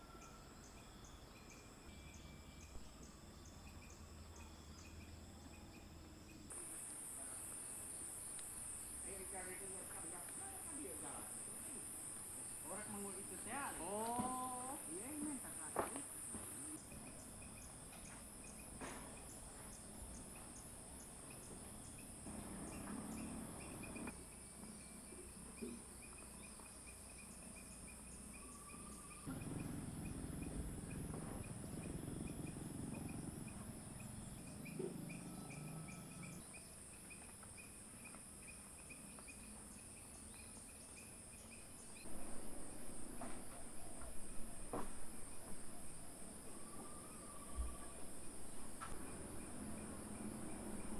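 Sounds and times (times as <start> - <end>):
insect chirping in pulses: 0.0 - 50.9
insects trilling: 0.0 - 50.9.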